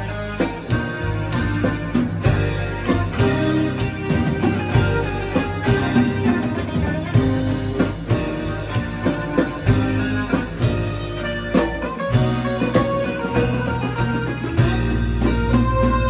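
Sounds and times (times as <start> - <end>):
bass: 0.0 - 16.0
guitar: 0.0 - 16.0.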